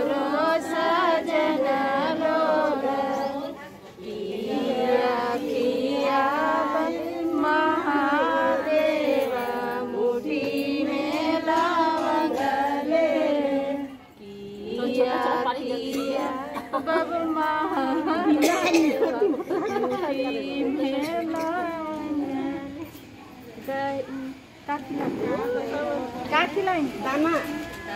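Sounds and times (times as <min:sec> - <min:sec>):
women singing together: 0:00.0 - 0:27.9.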